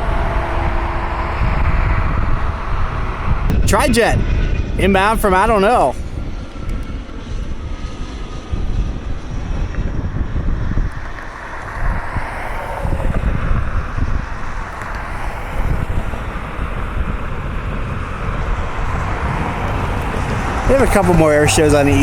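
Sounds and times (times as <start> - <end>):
jet engines rumbling: 0.0 - 22.0
wind buffeting microphone: 0.0 - 22.0.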